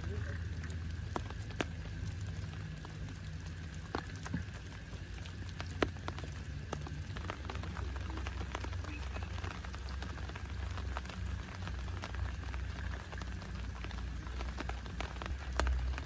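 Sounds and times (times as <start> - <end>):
rain drops ticking: 0.0 - 16.0.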